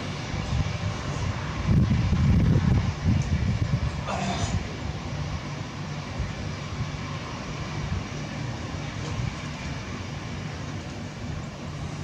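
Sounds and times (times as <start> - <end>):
jet engines at takeoff thrust: 0.0 - 12.0.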